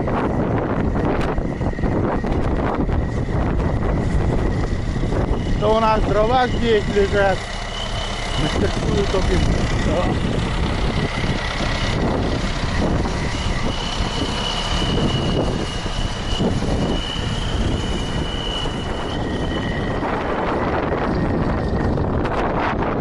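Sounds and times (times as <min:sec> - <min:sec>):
thin high whine: 0:00.0 - 0:23.0
tractor diesel engine running: 0:00.0 - 0:23.0.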